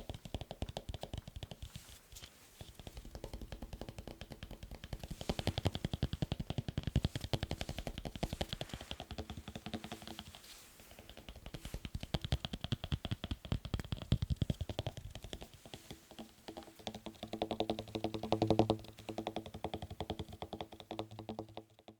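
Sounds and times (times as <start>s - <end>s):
fast sharp tapping: 0.0s - 2.0s, 2.6s - 21.9s.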